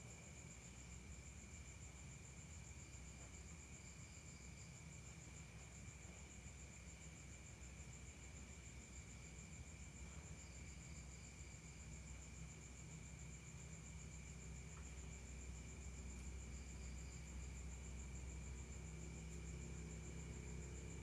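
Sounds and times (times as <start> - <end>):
low background hum: 0.0 - 21.0
night insect chorus: 0.0 - 21.0.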